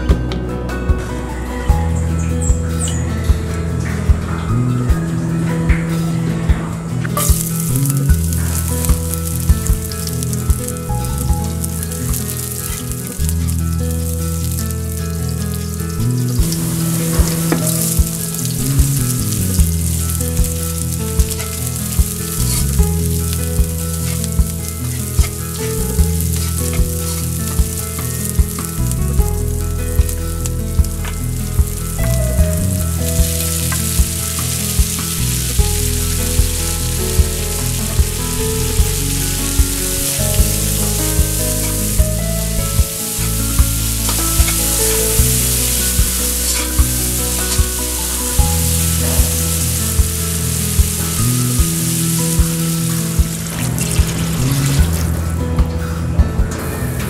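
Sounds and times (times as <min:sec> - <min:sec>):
background music with steady beat: 0:00.0 - 0:57.0
onions sizzling in oil: 0:07.2 - 0:55.2.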